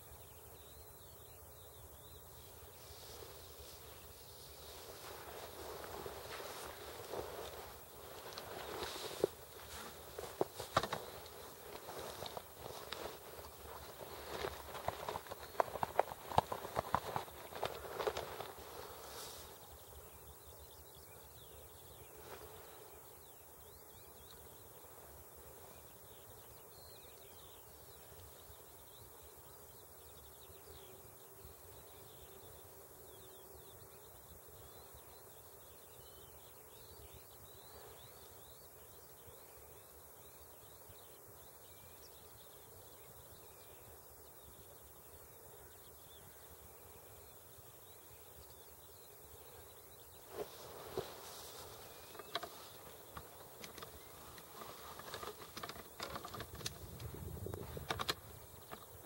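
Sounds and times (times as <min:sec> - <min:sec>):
distant birds chirping: 0:00.0 - 0:59.0
low background hiss: 0:00.0 - 0:59.0.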